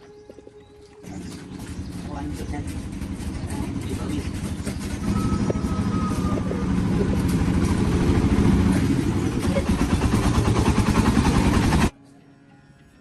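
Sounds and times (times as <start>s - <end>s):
tractor engine chugging: 1.1s - 11.9s.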